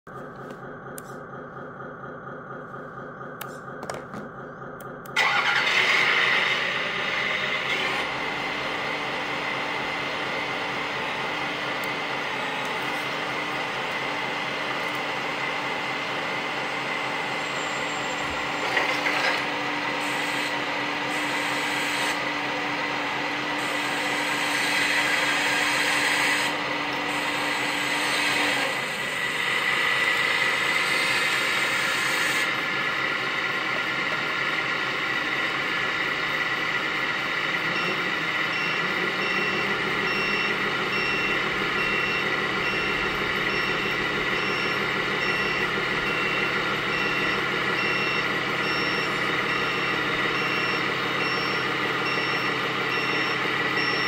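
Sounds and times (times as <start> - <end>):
hydraulic pump whining: 3.1 - 54.0.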